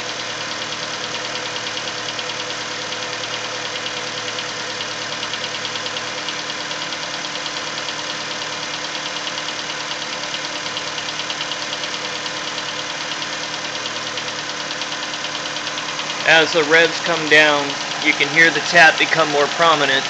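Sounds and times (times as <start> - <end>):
car engine running: 0.0 - 20.0
fast engine tapping: 0.0 - 20.0.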